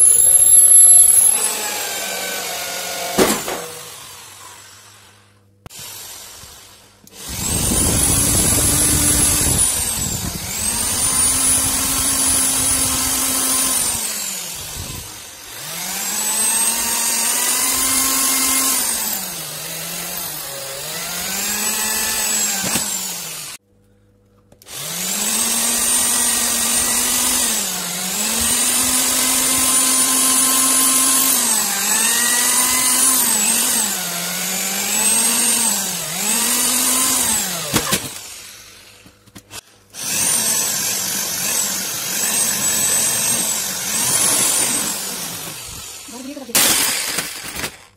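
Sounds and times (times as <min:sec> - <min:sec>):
electric drill boring sheet metal: 0:00.0 - 0:23.6, 0:24.6 - 0:47.9.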